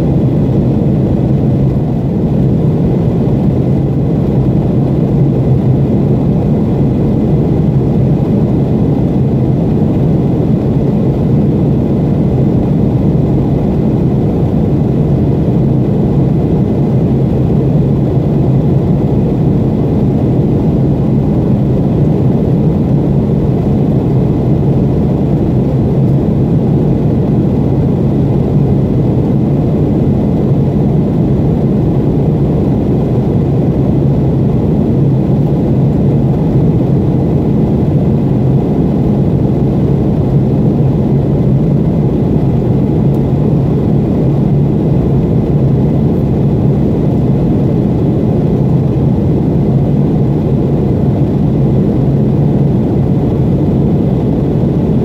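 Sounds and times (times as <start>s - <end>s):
jet cabin engine drone: 0.0s - 55.0s.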